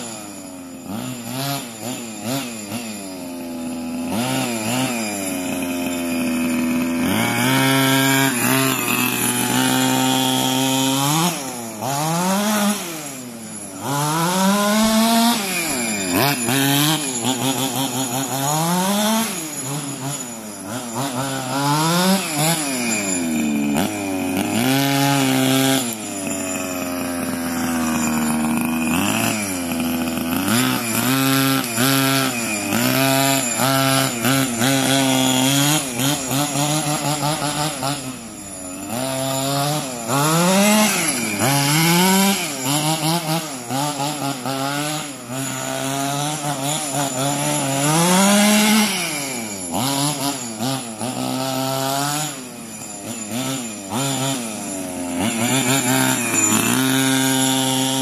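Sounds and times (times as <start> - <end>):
rc car engine revving: 0.0 - 58.0.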